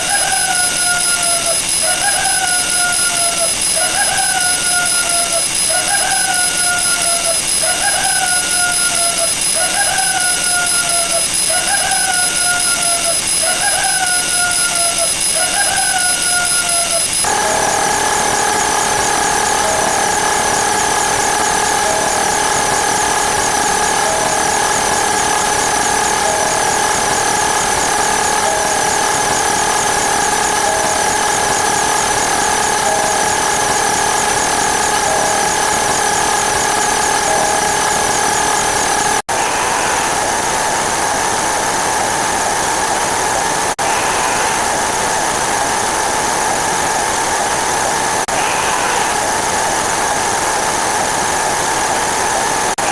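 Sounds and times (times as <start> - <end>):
falling chirp: 0.0 - 50.9
mechanical steady tones: 0.0 - 52.9
rapid high ticking: 0.0 - 52.9.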